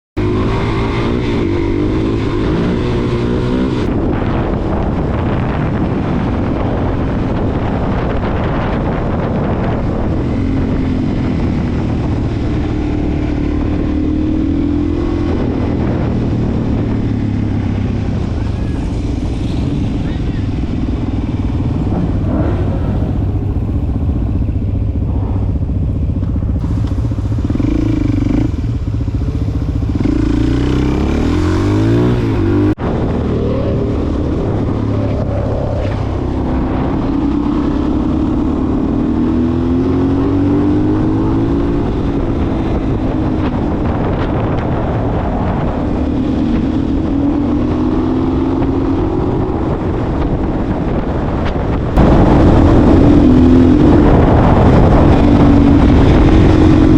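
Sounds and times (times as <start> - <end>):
motorcycle engine accelerating: 0.2 - 56.9.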